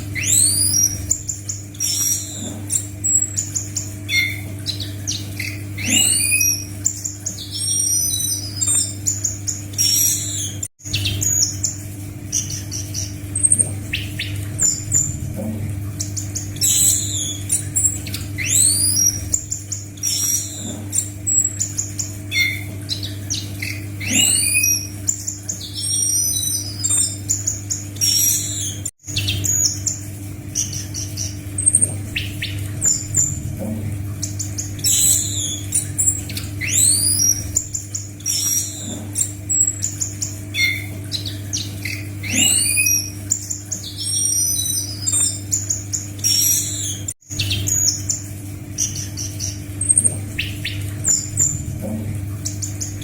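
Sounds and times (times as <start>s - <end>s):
steady low hum: 0.0s - 53.0s
thrush singing whistles and chirps: 0.2s - 15.2s, 16.0s - 33.4s, 34.2s - 51.6s.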